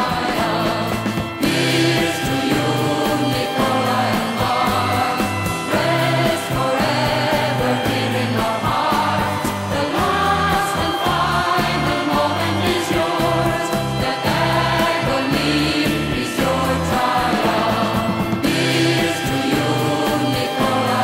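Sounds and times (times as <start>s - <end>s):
music with singing voices: 0.0s - 21.0s
steady bass line: 0.0s - 21.0s.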